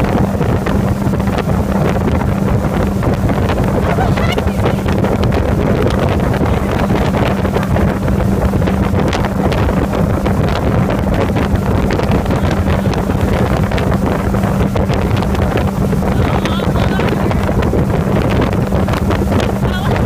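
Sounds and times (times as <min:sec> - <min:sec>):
motorboat engine droning: 0:00.0 - 0:20.0
wind buffeting microphone: 0:00.0 - 0:20.0.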